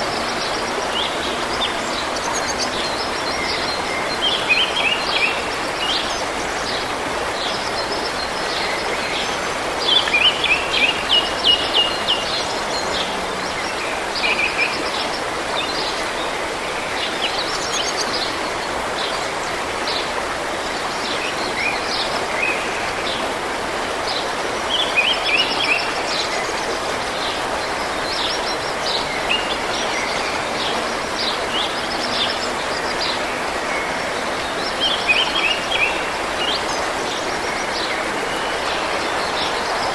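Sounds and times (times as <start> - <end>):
forest stream rushing: 0.0 - 39.9.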